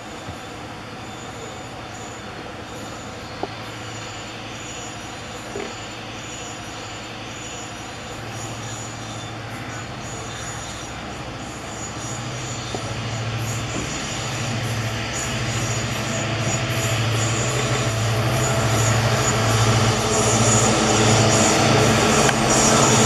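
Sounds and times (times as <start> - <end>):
diesel locomotive engine drone: 0.0 - 23.0
rail noise: 0.0 - 23.0.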